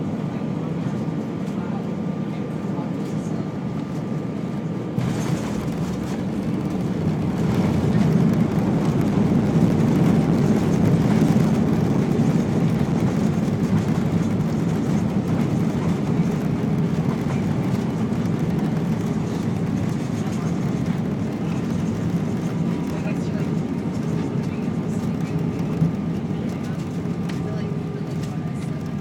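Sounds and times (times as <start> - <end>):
jet engines and runway rumble: 0.0 - 29.0.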